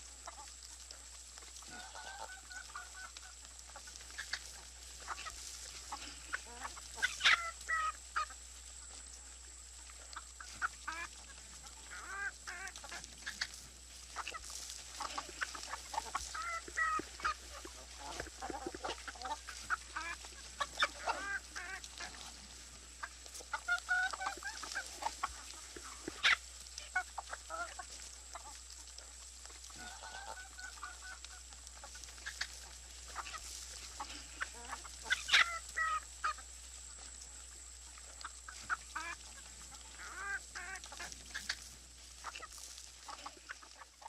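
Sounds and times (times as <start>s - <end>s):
poultry clucking and squawking: 0.0s - 44.0s.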